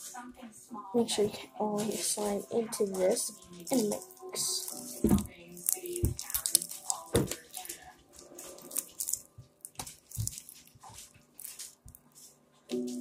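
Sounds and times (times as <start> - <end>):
slime squelching by hand: 1.3 - 13.0.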